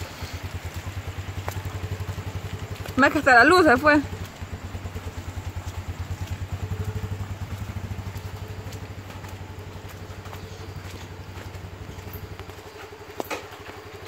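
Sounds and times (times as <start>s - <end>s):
small motorcycle engine idling: 0.0s - 14.0s.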